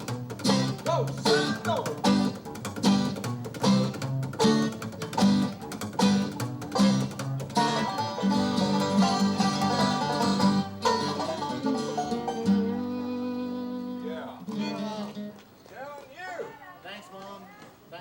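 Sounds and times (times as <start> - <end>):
banjo picking: 0.0 - 15.4
guitar picking: 0.0 - 15.6.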